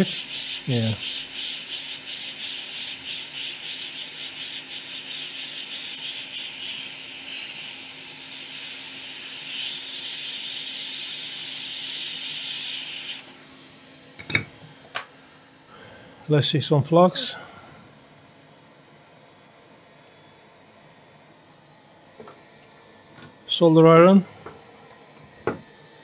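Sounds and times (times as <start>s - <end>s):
hot air blower hissing: 0.0s - 26.0s.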